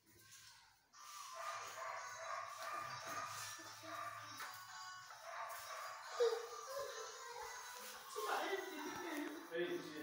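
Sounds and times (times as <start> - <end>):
background music: 1.1 - 10.0.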